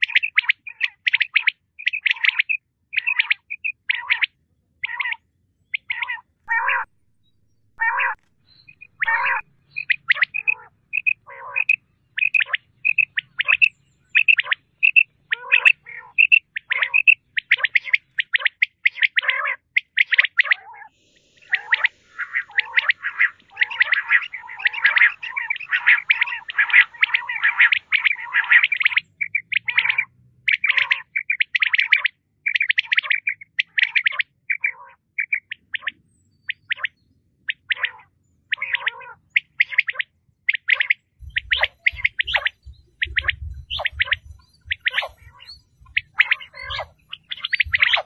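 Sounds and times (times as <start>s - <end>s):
quail calling: 0.0s - 6.9s, 7.8s - 48.0s.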